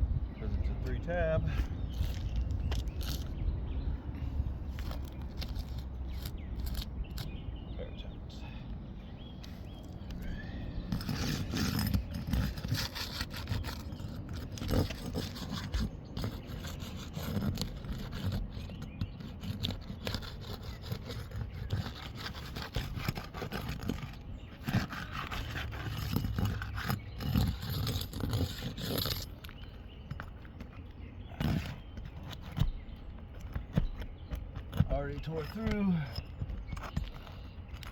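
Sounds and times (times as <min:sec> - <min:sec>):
scraping on roof shingle: 0:00.6 - 0:03.4, 0:04.2 - 0:07.4, 0:09.4 - 0:37.9
shingle tearing: 0:01.5 - 0:03.4, 0:04.7 - 0:07.4, 0:09.5 - 0:37.9.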